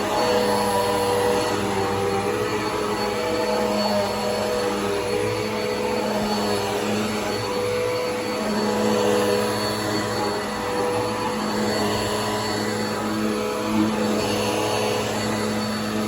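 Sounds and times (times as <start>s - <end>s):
upright vacuum cleaner running: 0.0s - 16.0s.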